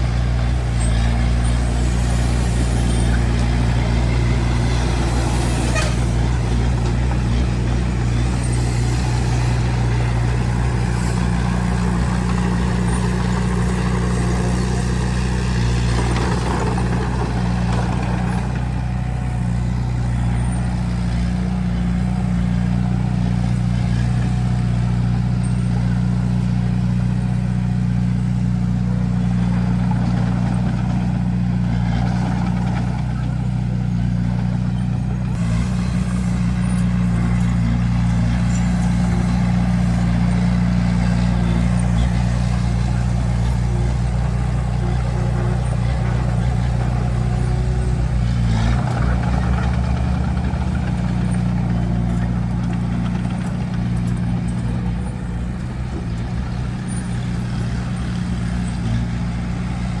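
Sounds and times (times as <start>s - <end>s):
diesel engine humming: 0.0s - 60.0s.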